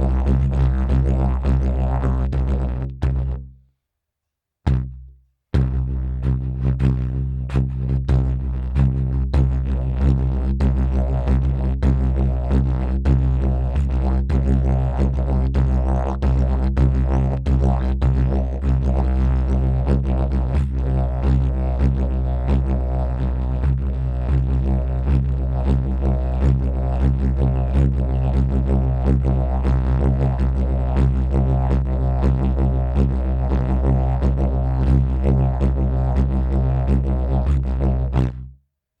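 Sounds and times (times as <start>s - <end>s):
didgeridoo drone: 0.0s - 3.4s, 5.6s - 38.5s.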